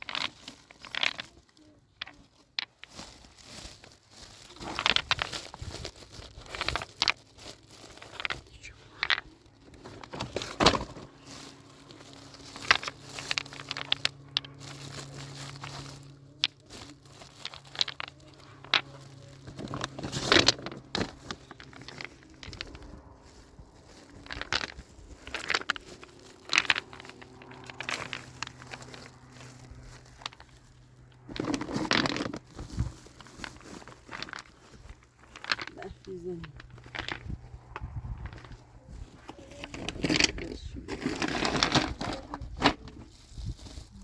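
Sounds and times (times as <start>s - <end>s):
crinkling rustles: 0.0s - 44.0s.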